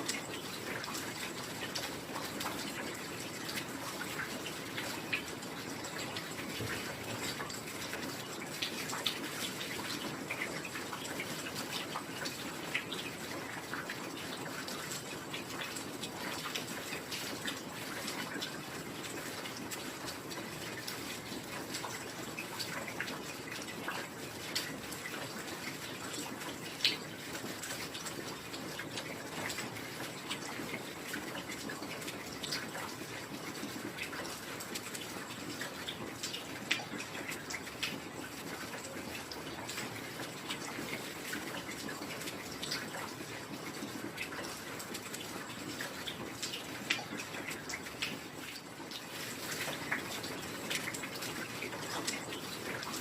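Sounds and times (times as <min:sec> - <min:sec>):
drops ticking and dripping: 0:00.0 - 0:53.0
steady rain: 0:00.0 - 0:53.0.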